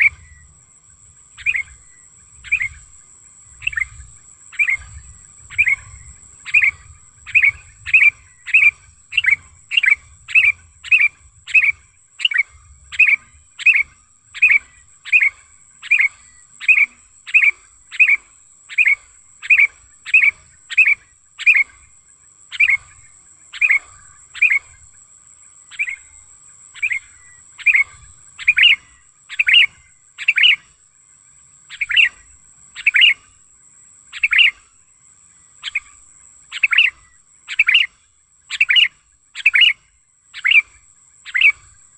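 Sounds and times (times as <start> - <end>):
faint high-pitched whine: 0.0 - 41.9.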